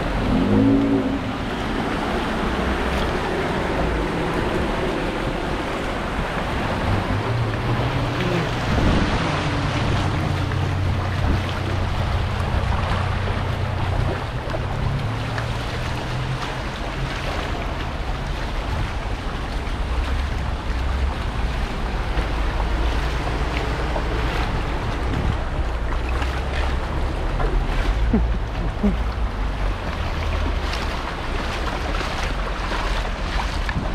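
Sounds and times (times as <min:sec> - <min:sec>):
car engines running: 0:00.0 - 0:33.9
floodwater sloshing and splashing: 0:00.0 - 0:33.9.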